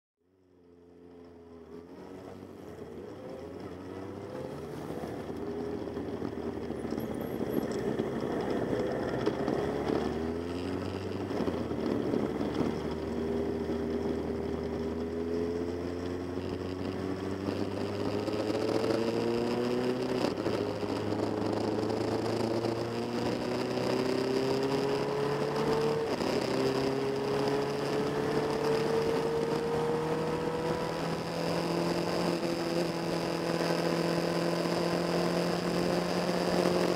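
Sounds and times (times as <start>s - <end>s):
wind and road noise: 0.2s - 36.9s
motorcycle engine accelerating: 0.4s - 36.9s.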